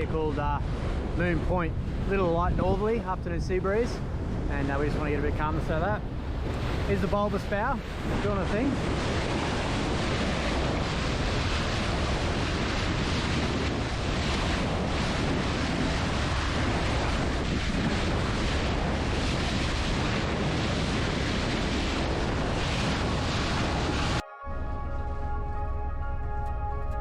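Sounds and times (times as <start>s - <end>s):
wind buffeting microphone: 0.0s - 27.0s
bow wave rushing and splashing: 4.5s - 26.2s.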